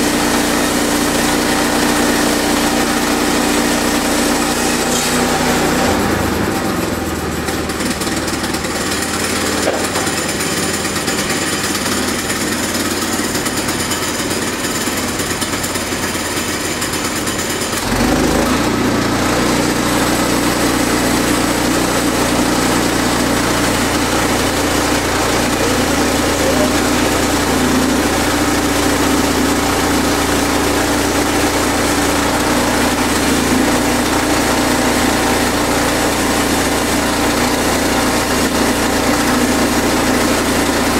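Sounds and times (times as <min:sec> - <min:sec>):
sawmill running: 0:00.0 - 0:40.9.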